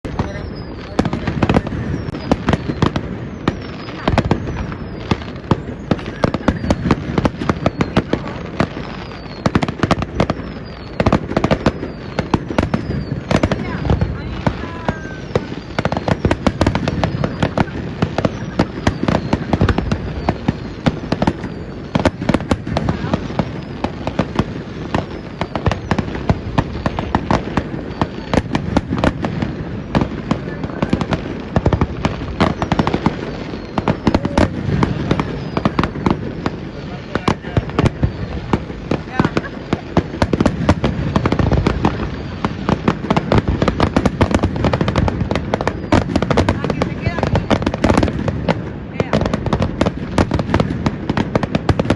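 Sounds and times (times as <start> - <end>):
fireworks banging: 0.0 - 51.9.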